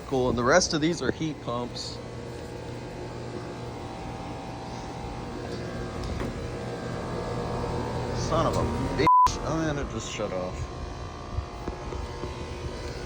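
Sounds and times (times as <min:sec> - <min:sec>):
compressor hum: 0:00.0 - 0:13.0
condenser fans rushing: 0:00.0 - 0:13.0.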